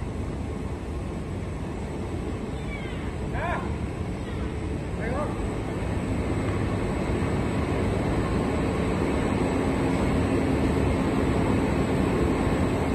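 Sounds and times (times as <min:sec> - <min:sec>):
factory machinery rumble: 0:00.0 - 0:12.9
faint steady hum: 0:00.0 - 0:12.9.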